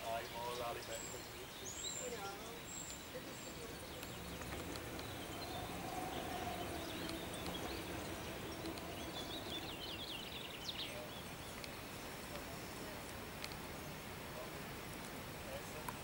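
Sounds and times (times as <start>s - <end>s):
songbird chirping: 0.0s - 16.0s
steady low rush: 2.5s - 15.5s.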